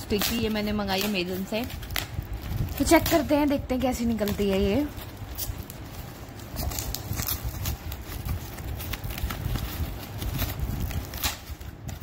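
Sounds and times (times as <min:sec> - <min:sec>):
plastic wrap tearing and crinkling: 0:00.0 - 0:12.0.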